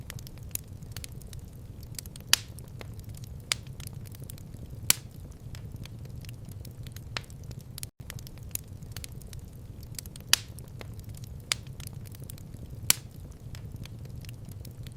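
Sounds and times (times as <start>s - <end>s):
wood fire crackling and popping: 0.0s - 14.9s.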